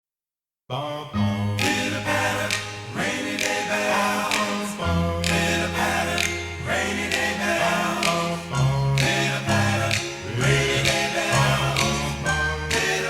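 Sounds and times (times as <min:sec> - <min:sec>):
group vocal harmonies: 0:00.7 - 0:13.0
held bass notes: 0:01.4 - 0:13.0.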